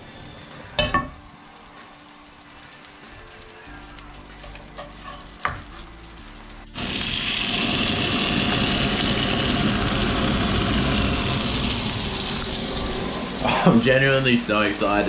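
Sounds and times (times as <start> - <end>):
lobster sizzling in butter: 0.0 - 15.0.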